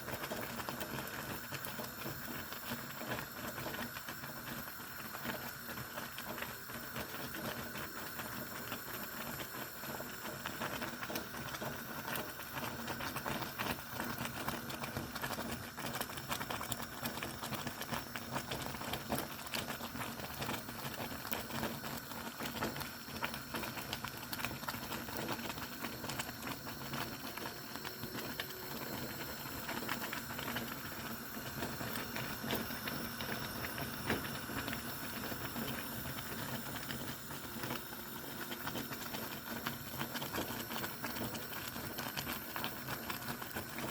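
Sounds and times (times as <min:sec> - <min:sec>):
thick porridge bubbling in pot: 0:00.0 - 0:43.9.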